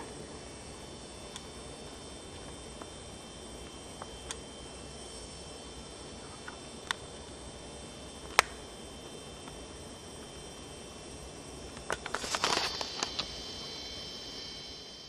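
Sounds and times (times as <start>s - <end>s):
box fan running: 0.0s - 15.0s.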